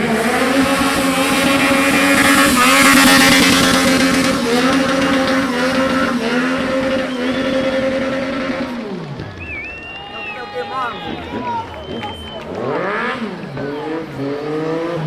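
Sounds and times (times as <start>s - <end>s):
motorcycle engine at high revs: 0.0s - 9.8s, 11.0s - 15.0s.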